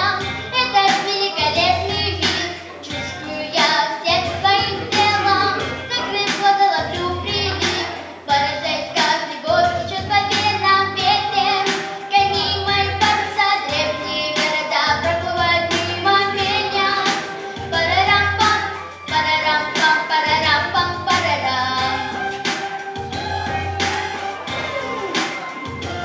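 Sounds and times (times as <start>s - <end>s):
girl singing: 0.0s - 22.4s
backing track with steady beat: 0.0s - 26.0s.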